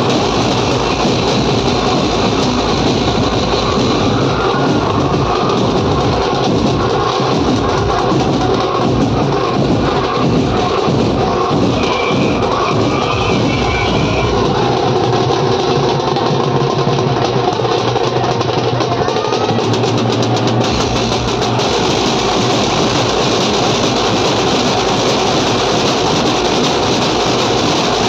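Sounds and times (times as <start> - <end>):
large drums beaten with sticks: 0.0 - 28.0.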